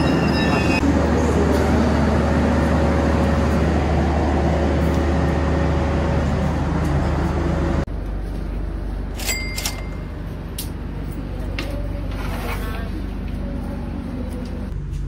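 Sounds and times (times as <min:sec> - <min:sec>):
diesel engine drone: 0:00.8 - 0:15.0.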